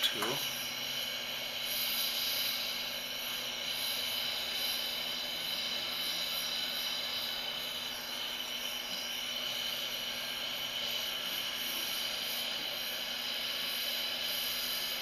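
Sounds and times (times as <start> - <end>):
gas torch flame hissing: 0.0 - 15.0.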